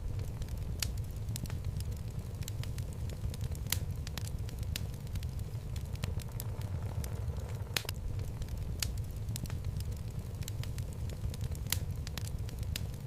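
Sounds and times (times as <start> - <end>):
burning logs crackling and popping: 0.0 - 13.0
low rumble of flames: 0.0 - 13.0.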